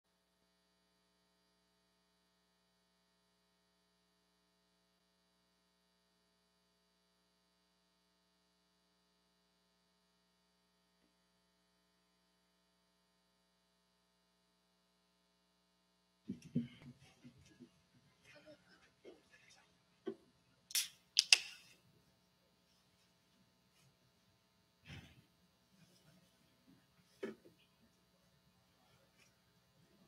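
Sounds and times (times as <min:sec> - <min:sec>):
faint mains hum: 0:00.1 - 0:30.0.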